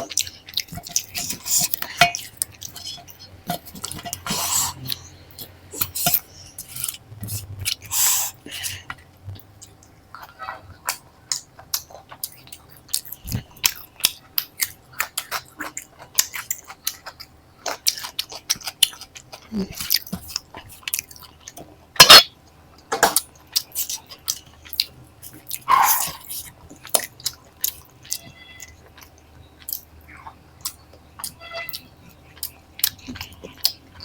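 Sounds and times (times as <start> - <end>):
close chewing and mouth clicks: 0.0 - 34.0.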